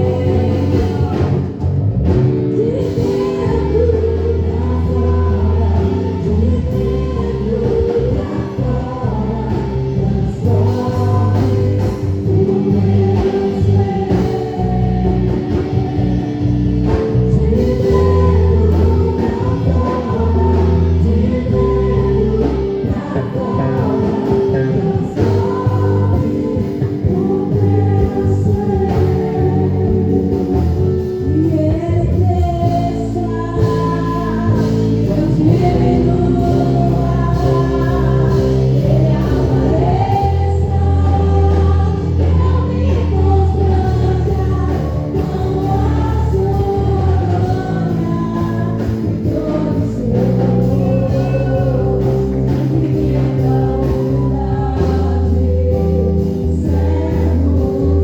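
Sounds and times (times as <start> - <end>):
instrumental accompaniment with bass: 0.0 - 58.0
voices singing gospel song: 0.0 - 58.0.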